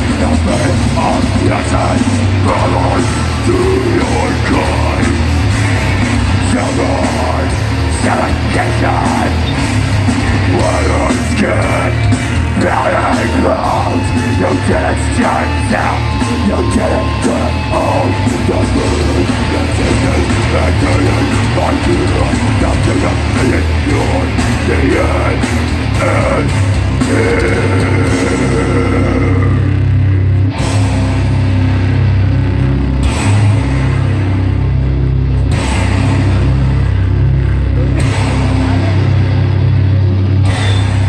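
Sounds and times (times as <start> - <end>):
distorted guitars: 0.0 - 41.0
drums: 0.0 - 41.0
heavy bass: 0.0 - 41.0
yelled vocals: 0.0 - 41.0.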